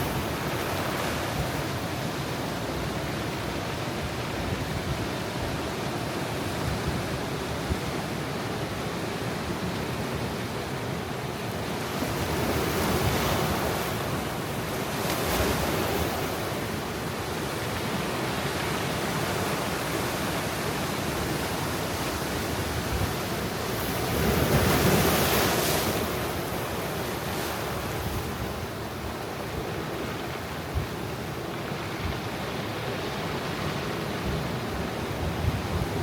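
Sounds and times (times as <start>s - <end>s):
waves breaking: 0.0s - 8.1s, 8.8s - 36.0s.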